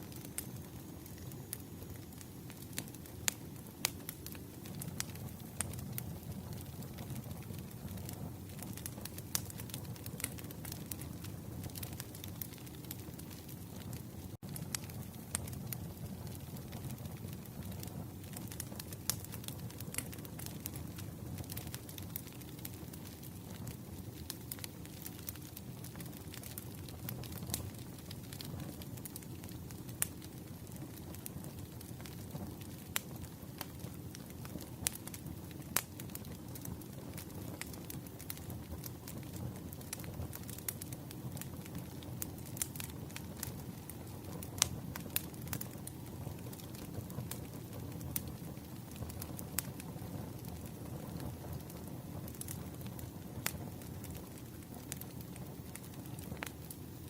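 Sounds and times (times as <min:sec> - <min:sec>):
fire crackling and popping: 0:00.0 - 0:57.0
firewood burning: 0:00.0 - 0:57.0.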